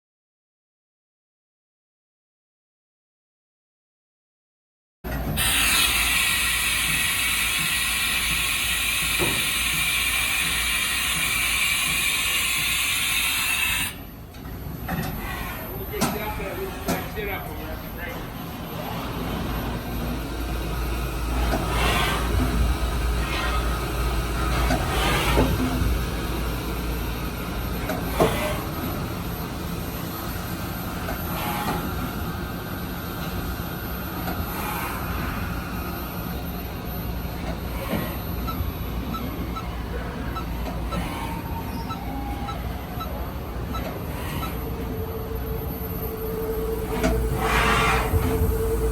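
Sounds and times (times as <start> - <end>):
machine whirring and hissing: 5.1 - 48.9.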